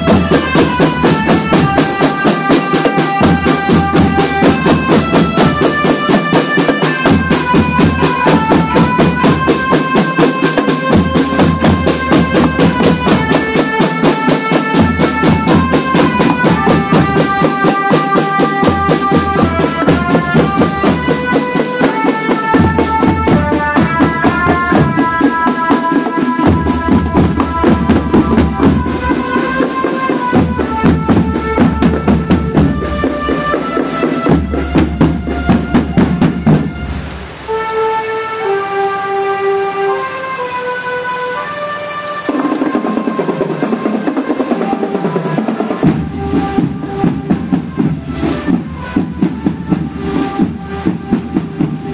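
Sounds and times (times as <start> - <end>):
tenor and bass drumming: 0.0 - 37.5, 42.3 - 51.9
melody of held notes: 0.0 - 51.9.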